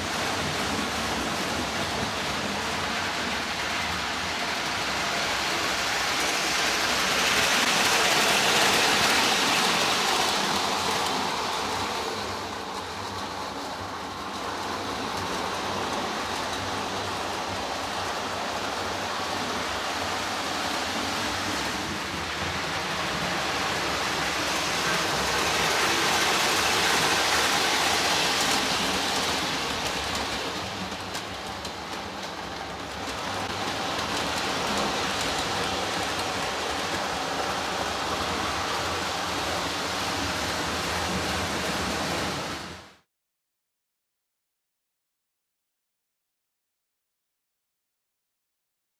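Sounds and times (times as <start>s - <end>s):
model train rolling on track: 0.0s - 43.0s.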